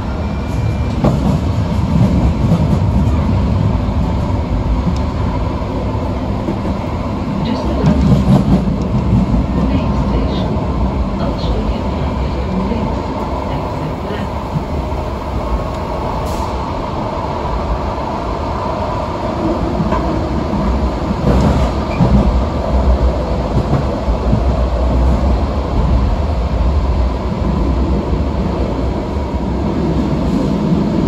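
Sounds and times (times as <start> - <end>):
rumble of wheels on rail: 0.0 - 31.0.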